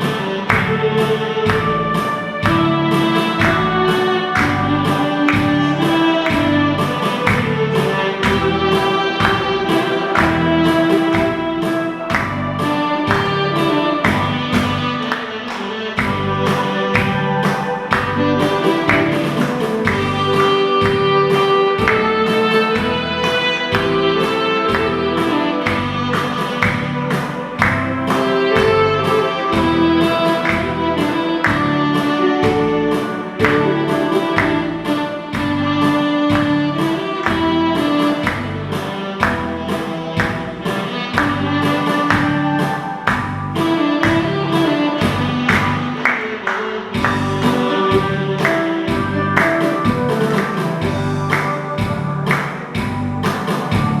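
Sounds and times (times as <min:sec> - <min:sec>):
saxophone playing slow melody: 0:00.0 - 0:15.0, 0:15.9 - 0:45.9
accompaniment with steady beat: 0:00.0 - 0:54.0.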